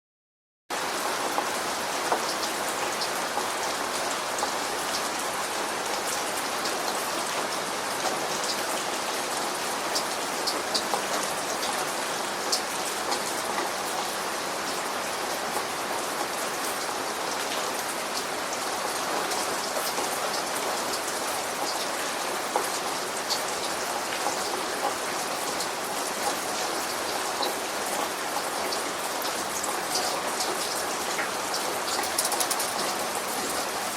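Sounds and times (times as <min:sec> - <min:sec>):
steady rain falling: 0:00.7 - 0:33.9.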